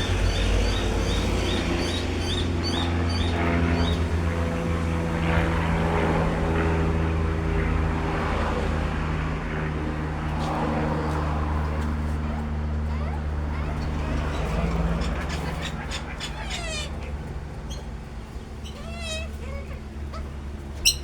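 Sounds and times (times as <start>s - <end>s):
low motor drone: 0.0s - 21.0s.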